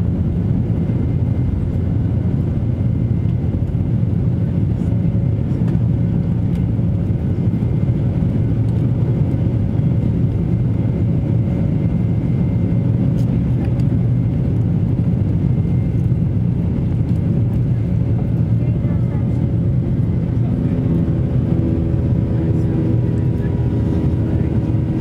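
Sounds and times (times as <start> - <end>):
jet engine rumble in cabin: 0.0 - 25.0.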